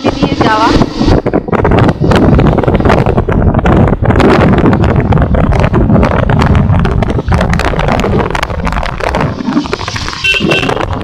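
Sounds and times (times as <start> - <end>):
motorcycle rumble: 0.0 - 11.0
wind buffeting microphone: 0.0 - 11.0.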